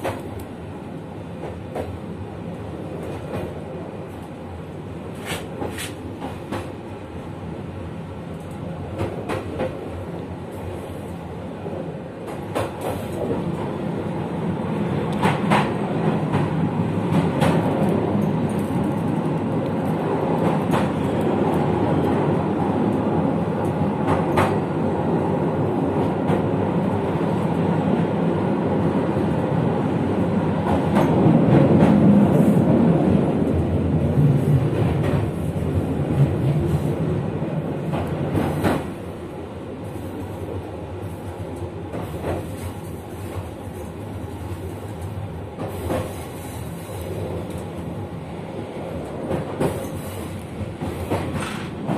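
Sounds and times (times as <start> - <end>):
train rumbling on track: 0.0 - 51.9.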